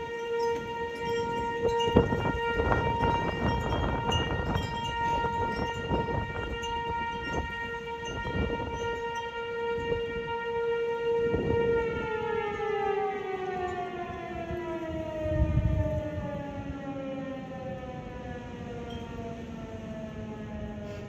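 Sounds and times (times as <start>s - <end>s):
warning siren winding down: 0.0s - 21.0s
wind buffeting microphone: 0.0s - 21.0s.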